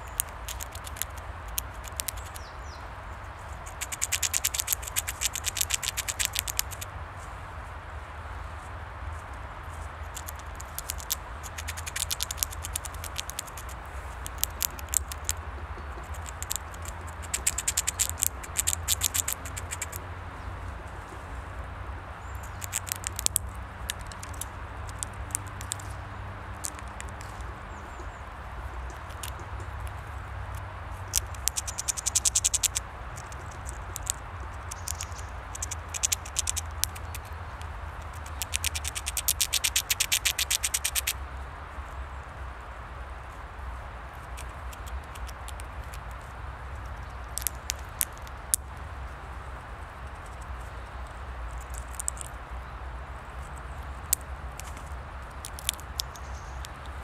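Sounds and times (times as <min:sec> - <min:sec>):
squirrel gnawing nut shell: 0:00.0 - 0:06.9, 0:09.7 - 0:20.1, 0:22.2 - 0:41.2, 0:44.0 - 0:52.5, 0:53.2 - 0:57.0
steady low rumble: 0:00.0 - 0:57.0.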